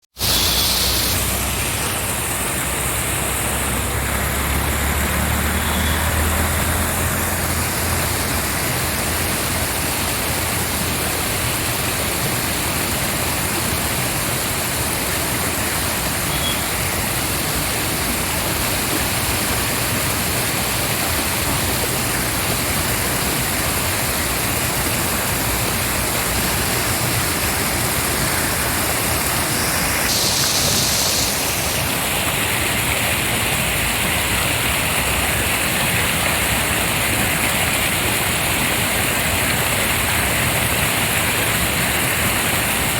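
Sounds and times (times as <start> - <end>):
heavy rushing water: 0.1 - 42.9.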